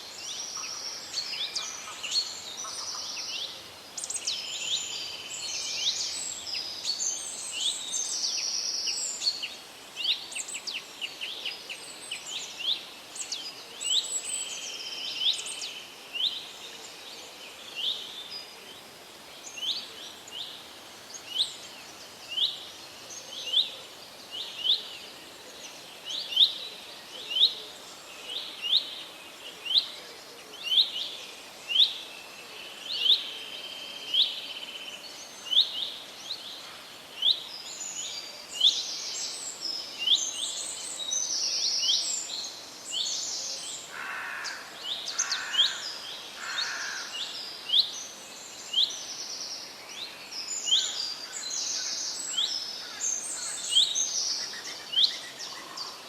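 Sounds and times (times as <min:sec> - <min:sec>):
birds calling high and busy: 0:00.0 - 0:18.7, 0:19.4 - 0:56.0
faint steady hiss: 0:00.0 - 0:56.0.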